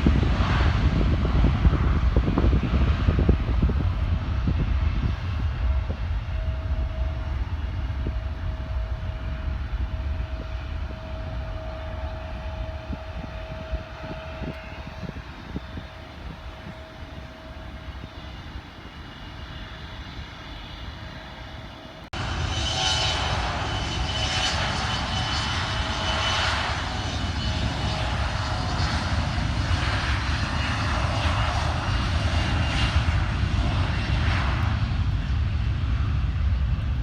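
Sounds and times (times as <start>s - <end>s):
jet airliner engines rumbling: 0.0s - 37.0s
steady engine whine: 0.0s - 37.0s.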